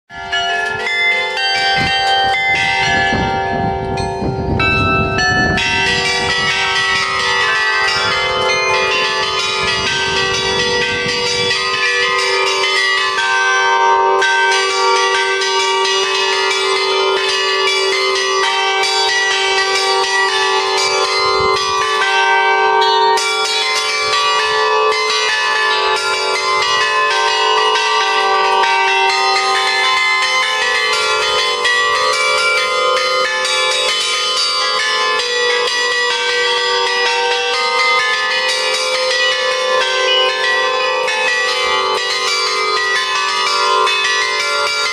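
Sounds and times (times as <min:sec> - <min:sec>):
hand bells pealing: 0:00.1 - 0:44.9.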